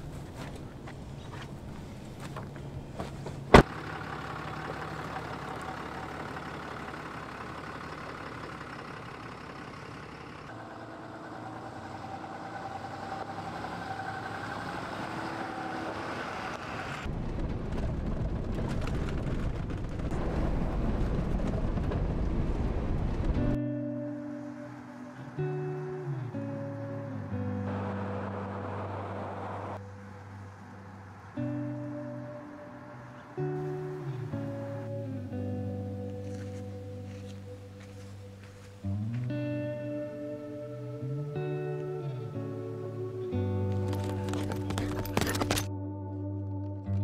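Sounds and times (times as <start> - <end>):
truck driving on dirt road: 0.0 - 45.8.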